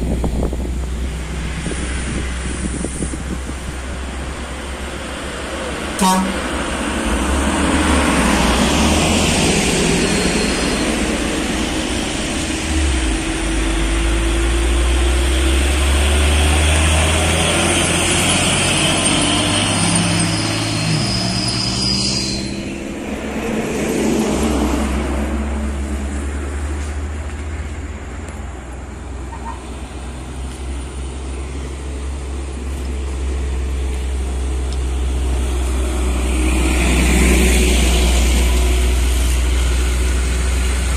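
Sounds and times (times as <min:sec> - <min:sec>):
diesel engine drone: 0:00.0 - 0:40.9
trucks passing: 0:00.0 - 0:40.9.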